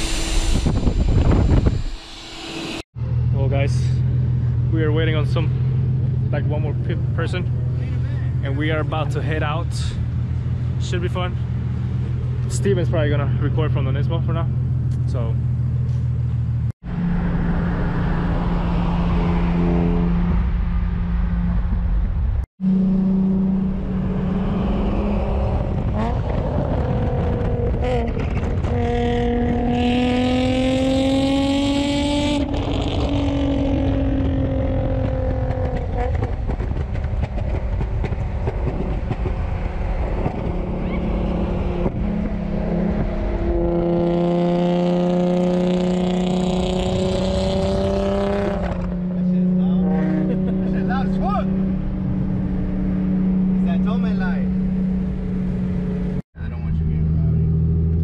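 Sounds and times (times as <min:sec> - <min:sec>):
road noise: 0:00.0 - 0:58.0
sports car engine droning: 0:03.0 - 0:58.0.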